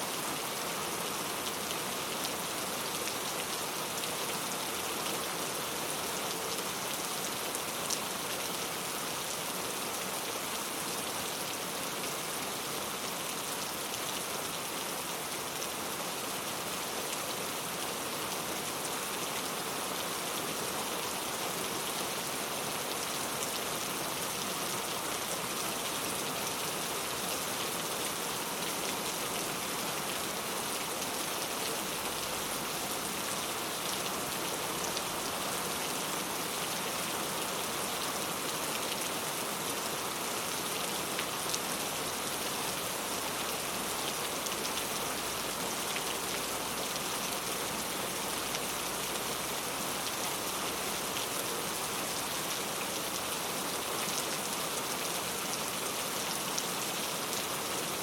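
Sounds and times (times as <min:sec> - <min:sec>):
rain pattering on a surface: 0:00.1 - 0:58.0.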